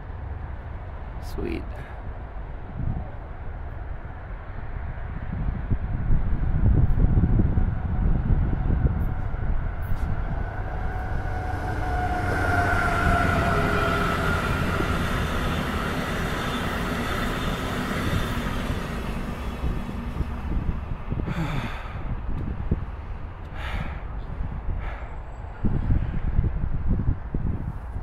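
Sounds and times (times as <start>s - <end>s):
passenger train passing: 0.0s - 26.8s.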